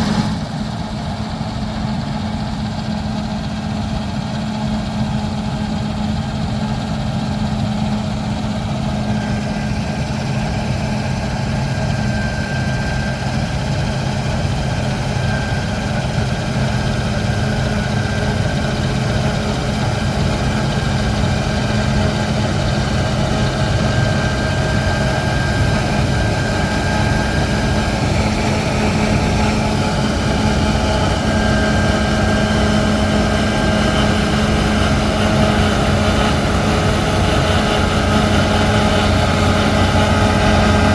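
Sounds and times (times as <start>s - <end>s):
diesel engine drone with whine: 0.0s - 40.9s.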